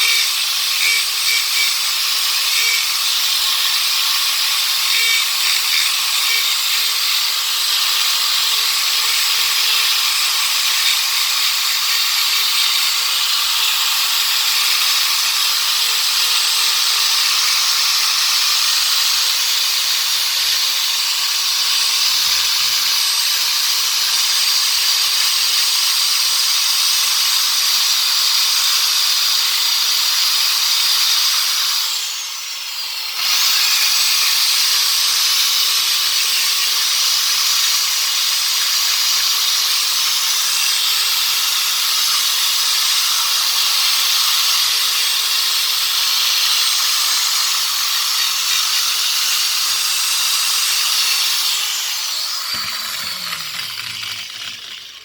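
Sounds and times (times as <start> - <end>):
rotary tool grinding: 0.0 - 27.2, 28.5 - 55.0.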